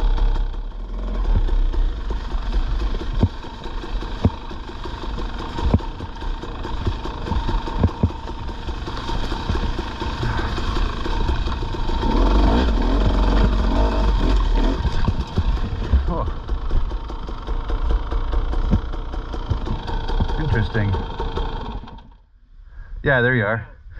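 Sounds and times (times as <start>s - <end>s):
dirt bike engine revving: 0.0s - 22.2s
sharp engine knocks: 1.3s - 22.2s.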